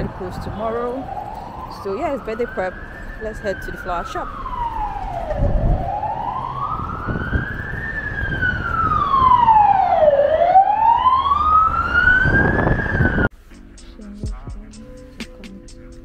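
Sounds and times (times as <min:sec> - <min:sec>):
siren wailing: 0:00.0 - 0:13.3
low street rumble: 0:00.0 - 0:16.0.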